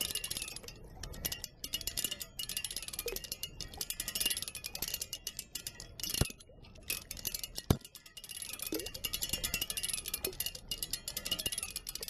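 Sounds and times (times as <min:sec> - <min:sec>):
water wheel metallic clicking: 0:00.0 - 0:12.0.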